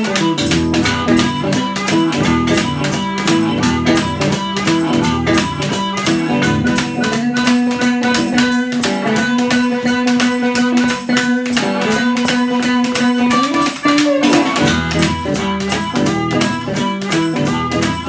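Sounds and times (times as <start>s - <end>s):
blues guitar picking: 0.0s - 18.0s
washboard scraping rhythm: 0.0s - 18.0s.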